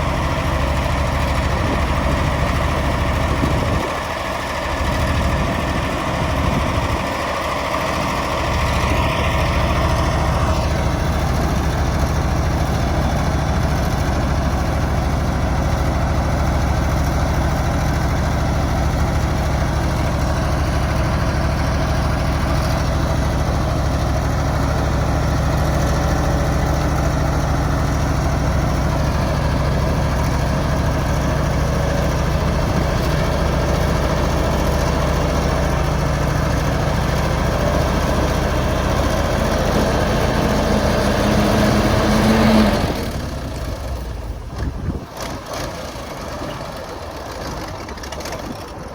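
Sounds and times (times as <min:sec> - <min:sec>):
diesel truck engine idling: 0:00.0 - 0:48.9.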